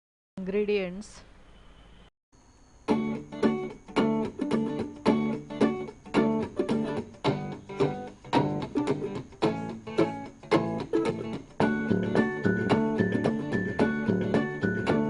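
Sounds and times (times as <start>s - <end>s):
acoustic guitar plucked and strummed: 2.9s - 15.0s.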